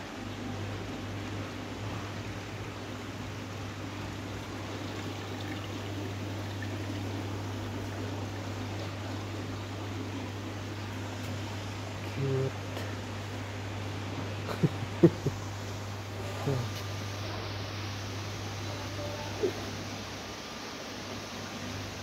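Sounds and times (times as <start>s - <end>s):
water trickling into tanks: 0.0s - 22.0s.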